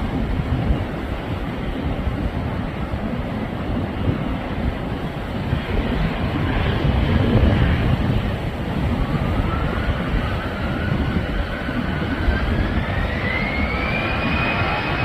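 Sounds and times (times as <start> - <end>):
jet engine whine rising: 0.0 - 15.0
jet engines low rumble: 0.0 - 15.0.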